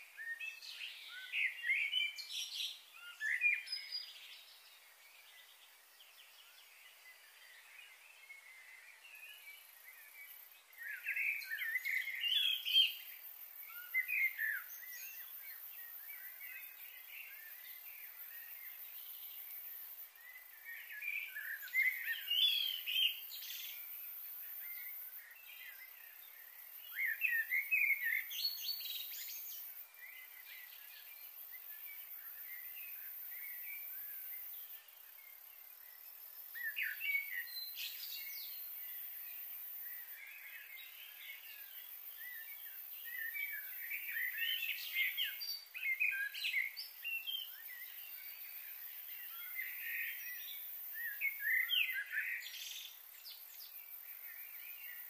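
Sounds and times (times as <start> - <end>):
faint background noise: 0.0 - 55.0.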